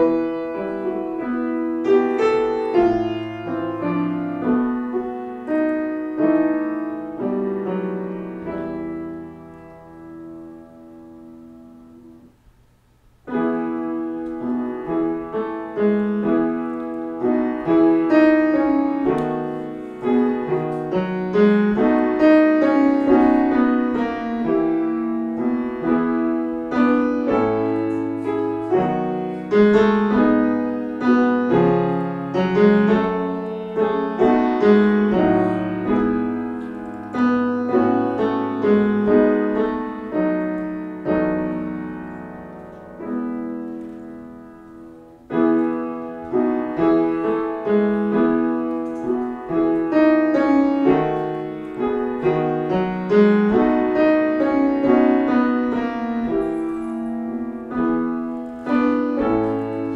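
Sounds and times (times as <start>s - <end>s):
solo piano playing gently: 0.0s - 59.9s.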